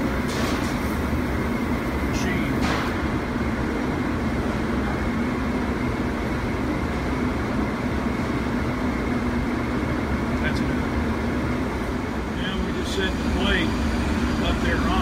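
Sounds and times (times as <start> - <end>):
blower rushing with low hum: 0.0 - 15.0.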